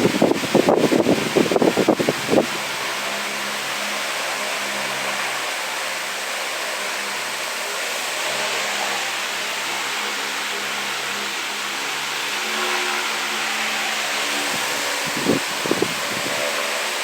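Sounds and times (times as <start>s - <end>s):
wall fan running: 0.0s - 17.0s.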